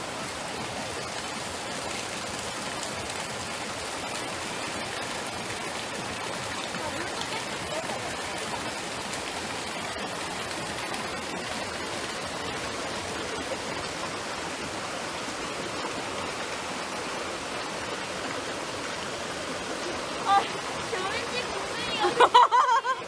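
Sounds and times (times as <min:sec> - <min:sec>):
stream flowing over rocks: 0:00.0 - 0:23.0.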